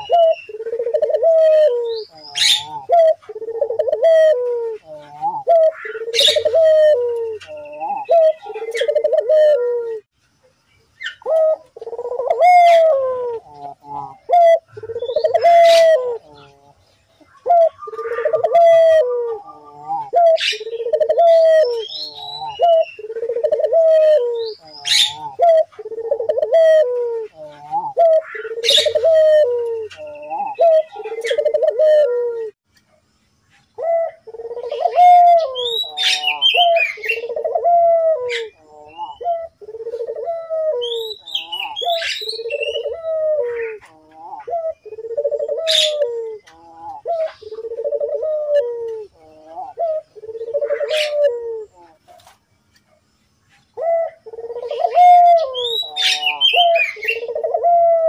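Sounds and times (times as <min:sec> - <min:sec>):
dove cooing: 0:00.0 - 0:10.1, 0:11.0 - 0:32.6, 0:33.8 - 0:52.4, 0:53.7 - 0:58.0
small birds chirping: 0:00.0 - 0:58.0.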